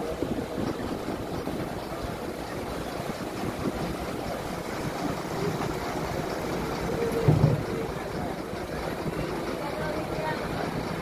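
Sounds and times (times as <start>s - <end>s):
boat engine rumble: 0.0s - 11.0s
water wash: 0.0s - 11.0s.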